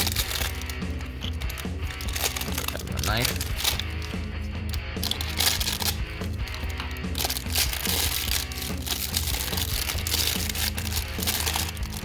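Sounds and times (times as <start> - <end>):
background music: 0.0 - 12.0
plastic wrapping crinkling: 0.0 - 12.0.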